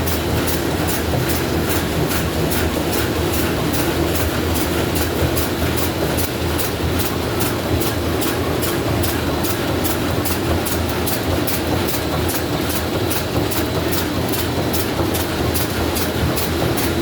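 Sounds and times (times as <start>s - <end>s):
bag-making machine running: 0.0s - 17.0s.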